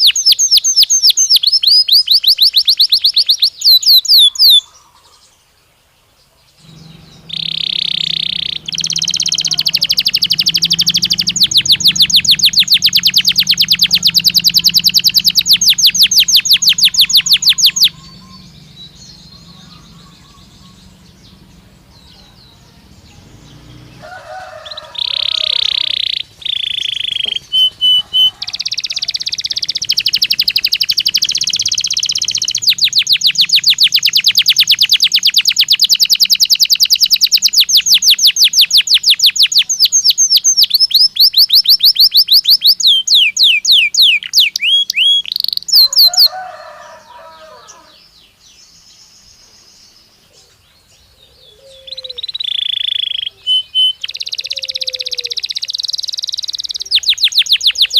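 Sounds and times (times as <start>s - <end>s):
canary singing trills: 0.0s - 5.5s, 6.2s - 57.9s.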